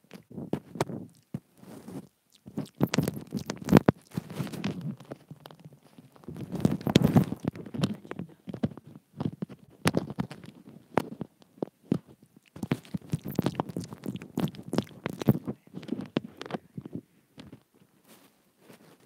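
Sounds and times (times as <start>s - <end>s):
crackles and clicks on microphone: 0.0s - 19.0s.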